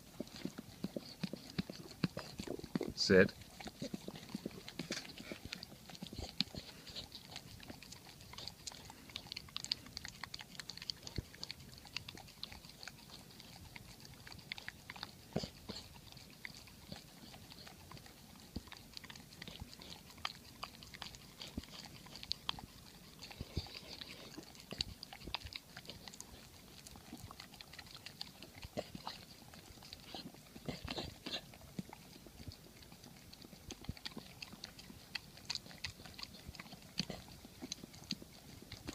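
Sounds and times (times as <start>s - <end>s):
dog licking and smacking: 0.0s - 38.9s.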